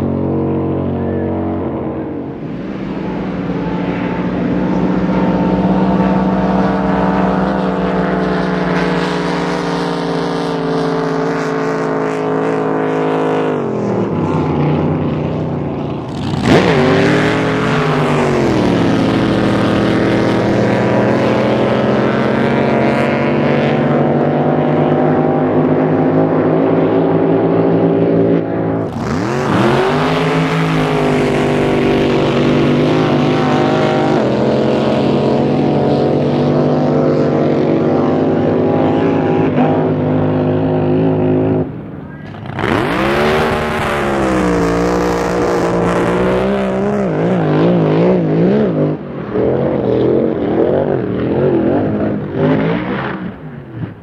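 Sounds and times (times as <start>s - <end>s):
boat engines running flat out: 0.0s - 54.0s.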